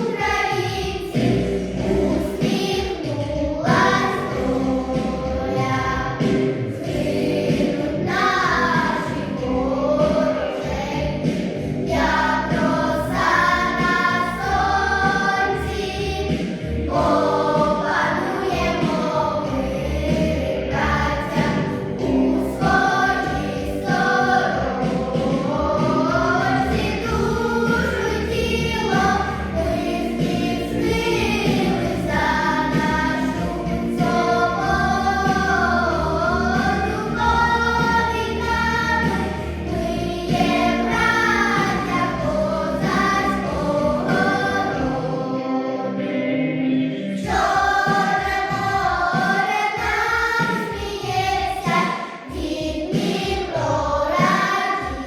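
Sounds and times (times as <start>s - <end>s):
instrumental accompaniment: 0.0s - 49.0s
children's choir singing: 0.0s - 55.0s.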